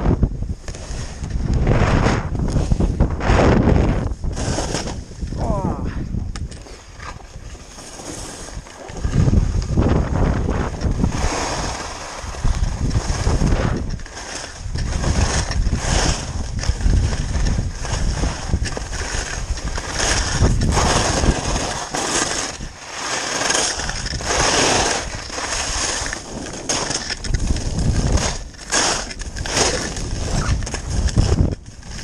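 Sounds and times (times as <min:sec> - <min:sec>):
wind buffeting microphone: 0:00.0 - 0:22.9, 0:23.7 - 0:32.0
skis scraping over snow: 0:00.1 - 0:05.9, 0:06.6 - 0:32.0.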